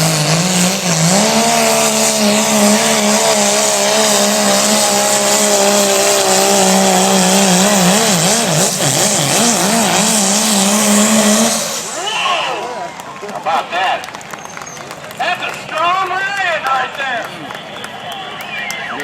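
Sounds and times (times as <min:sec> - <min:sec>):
diesel engine running at high revs: 0:00.0 - 0:19.0.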